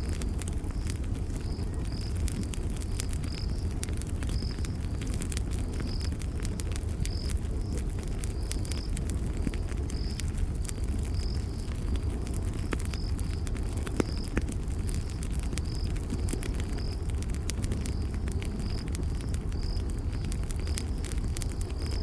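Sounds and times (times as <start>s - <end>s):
campfire crackling and popping: 0.0s - 22.0s
cricket chirping: 0.0s - 22.0s.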